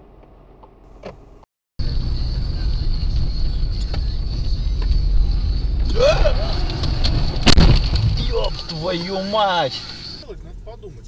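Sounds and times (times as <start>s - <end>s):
engine and road noise rumble: 0.0s - 11.0s.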